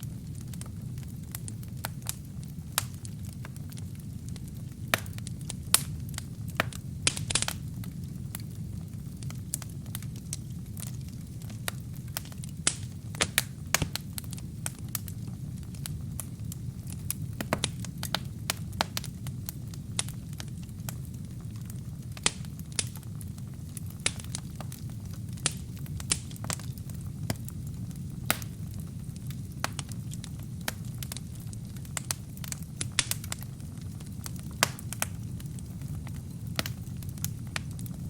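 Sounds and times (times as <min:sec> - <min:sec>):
burning wood crackling and popping: 0:00.0 - 0:38.0
low rumble of flames: 0:00.0 - 0:38.0.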